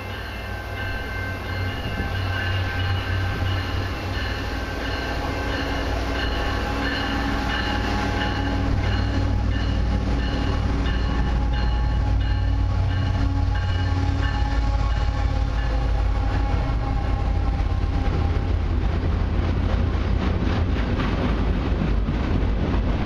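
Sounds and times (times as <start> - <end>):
diesel locomotive engines rumbling: 0.0 - 23.0.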